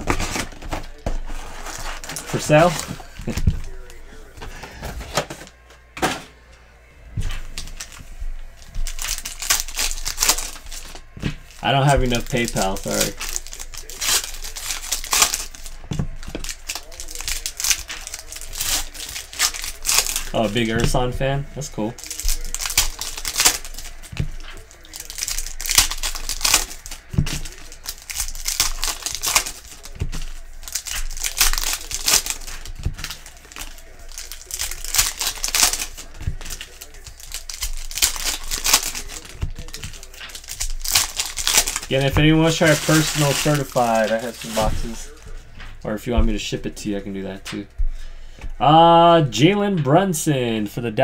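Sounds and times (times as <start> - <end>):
foil wrapper crinkling and tearing: 0.0 - 4.9, 7.3 - 45.2.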